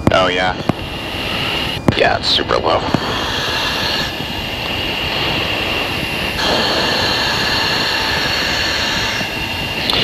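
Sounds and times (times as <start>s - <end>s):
high whine: 0.0s - 10.0s
jet engine and airflow rush: 0.0s - 10.0s.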